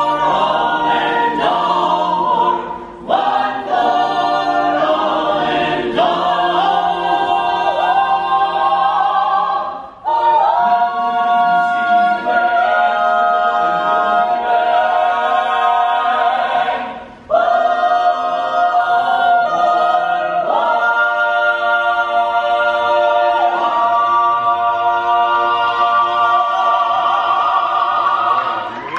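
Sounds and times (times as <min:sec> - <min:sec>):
choir singing in close harmony: 0:00.0 - 0:28.9.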